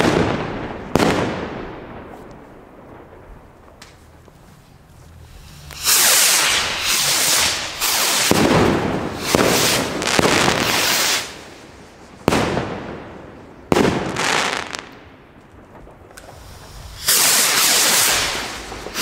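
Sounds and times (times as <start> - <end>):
fireworks rockets whooshing: 3.1 - 15.0, 15.6 - 19.0.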